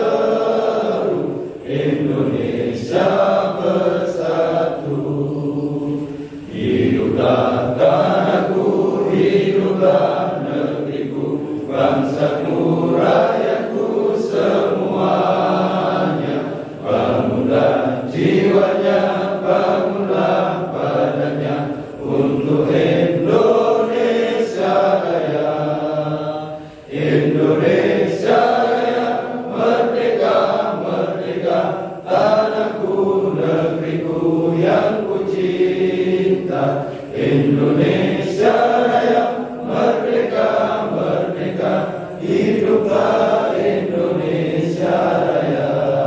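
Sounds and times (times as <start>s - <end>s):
men chanting in unison: 0.0s - 46.0s.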